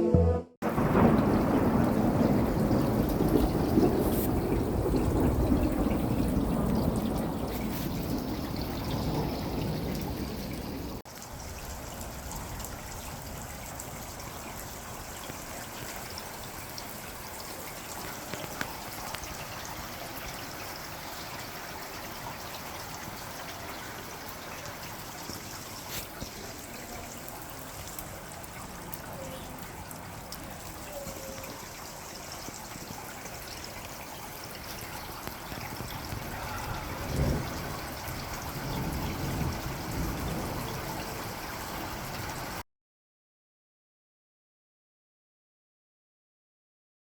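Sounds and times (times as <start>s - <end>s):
heavy rain downpour: 0.6s - 42.6s
trickle of running water: 0.7s - 42.6s.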